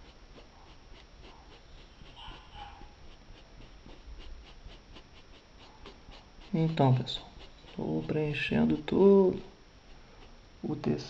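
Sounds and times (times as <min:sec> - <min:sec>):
paintbrush strokes on fabric: 0:00.0 - 0:10.8.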